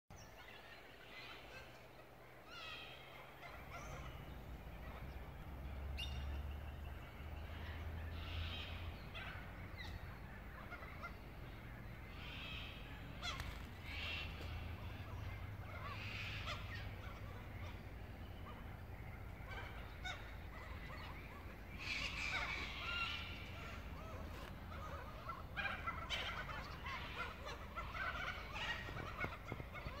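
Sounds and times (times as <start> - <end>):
birds calling: 0.1 - 30.0
steady low rumble: 2.3 - 30.0.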